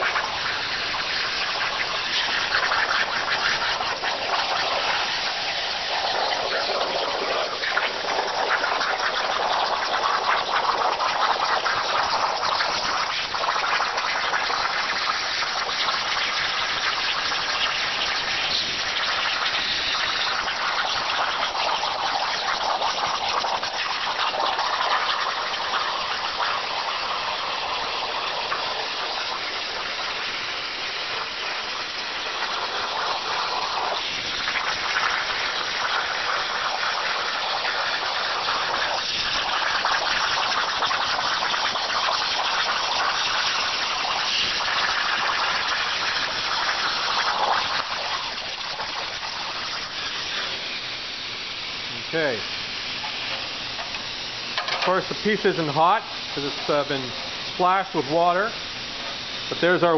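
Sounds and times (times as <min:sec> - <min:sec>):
plasma cutter hissing: 0:00.0 - 0:59.9.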